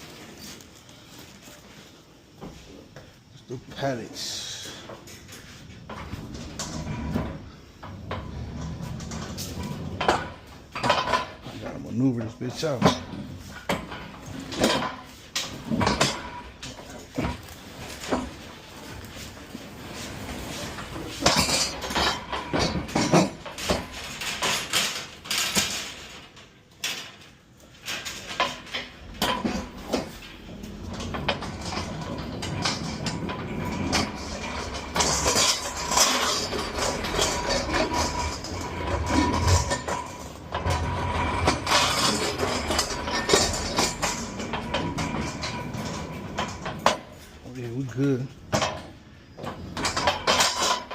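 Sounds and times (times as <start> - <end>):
pallet jack metal rattling: 5.4 - 50.9.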